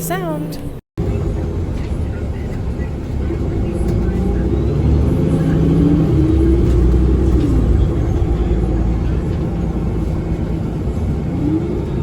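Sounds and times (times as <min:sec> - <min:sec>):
bus interior low rumble: 0:00.0 - 0:12.0.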